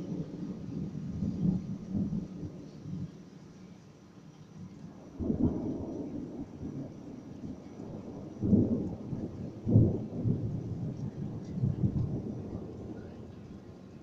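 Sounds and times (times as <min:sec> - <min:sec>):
thunder rumbling: 0:00.0 - 0:03.3, 0:05.0 - 0:14.0.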